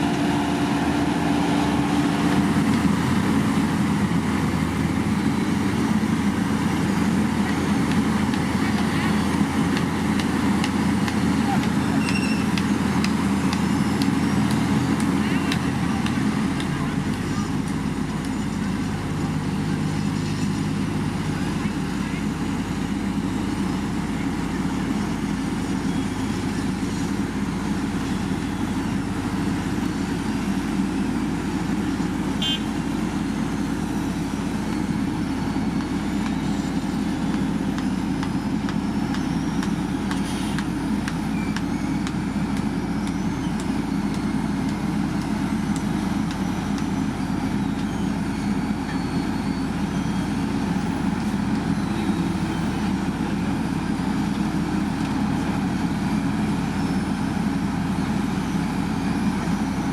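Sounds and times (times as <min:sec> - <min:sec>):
heavy diesel machinery engine drone: 0:00.0 - 0:59.9.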